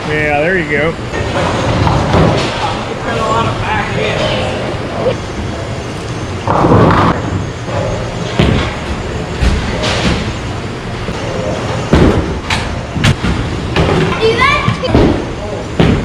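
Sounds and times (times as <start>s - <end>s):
bowling balls rolling: 1.0s - 16.0s.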